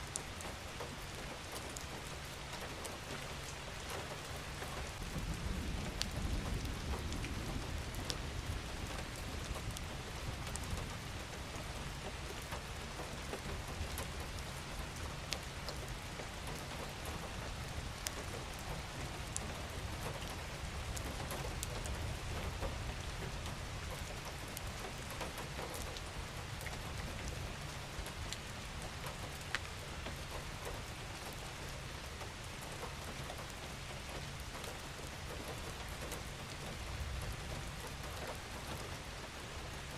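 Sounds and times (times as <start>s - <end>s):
steady rain falling: 0.0s - 39.9s
raindrops ticking: 0.1s - 39.9s.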